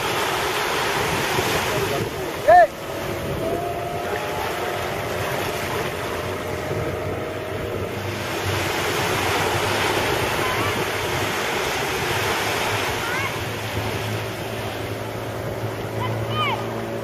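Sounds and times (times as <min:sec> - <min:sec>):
faint boat motor drone: 0:00.0 - 0:17.0
waves washing: 0:00.0 - 0:17.0
wind rushing over microphone: 0:00.0 - 0:17.0.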